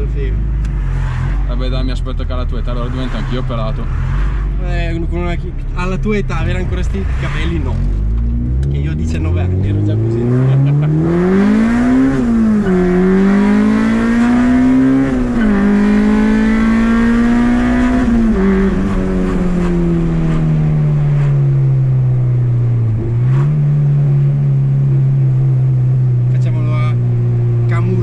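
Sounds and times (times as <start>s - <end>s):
car engine revving through gears: 0.4s - 28.0s.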